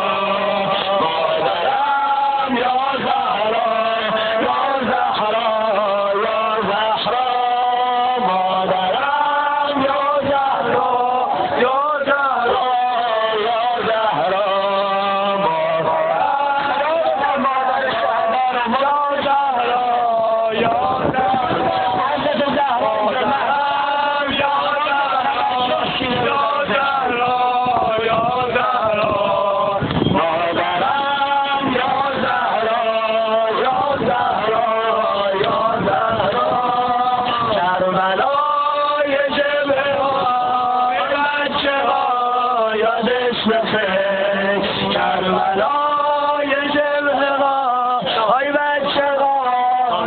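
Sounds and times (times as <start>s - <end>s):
men chanting a mourning lament: 0.0s - 50.0s.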